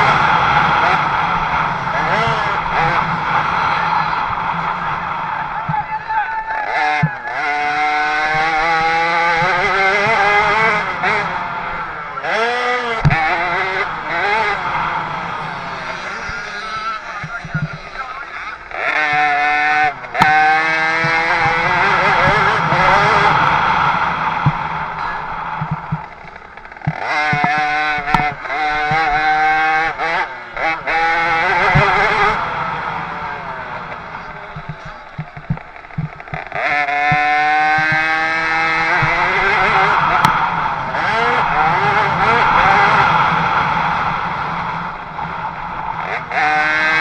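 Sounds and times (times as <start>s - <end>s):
motocross bike engines revving: 0.0s - 47.0s.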